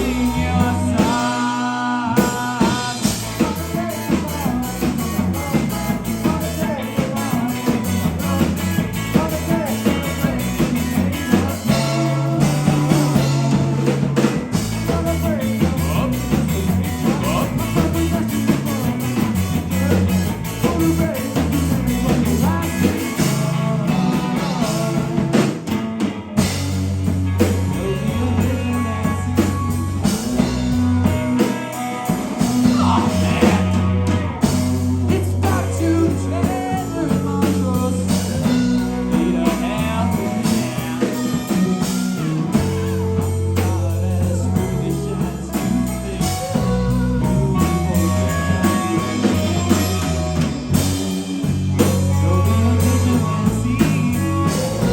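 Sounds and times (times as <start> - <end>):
person singing: 0.0 - 25.8, 26.4 - 54.9
bass guitar: 0.0 - 54.9
drum kit: 0.0 - 54.9
electric guitar: 0.0 - 54.9.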